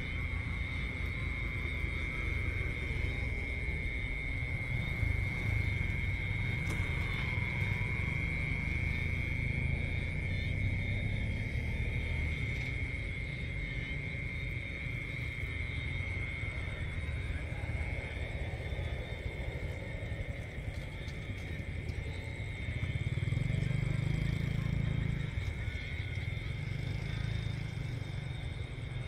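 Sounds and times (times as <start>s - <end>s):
night insects droning: 0.0s - 29.0s.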